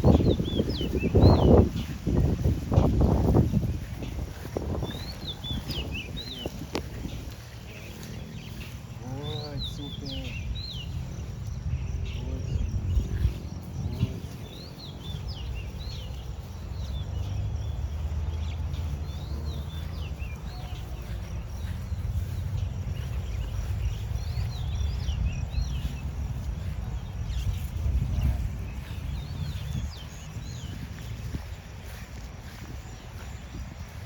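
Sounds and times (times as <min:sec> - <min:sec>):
birds chirping: 0:00.0 - 0:34.0
wind buffeting microphone: 0:00.0 - 0:34.0.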